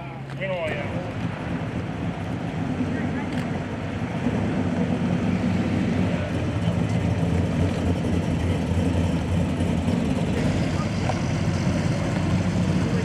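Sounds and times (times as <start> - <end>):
car engine running: 0.3 - 13.0.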